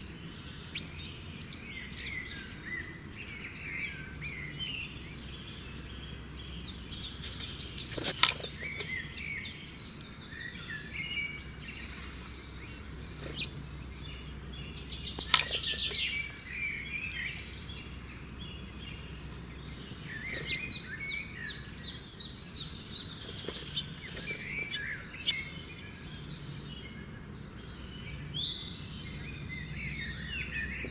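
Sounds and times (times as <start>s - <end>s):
small birds chirping and trilling: 0.0s - 30.9s.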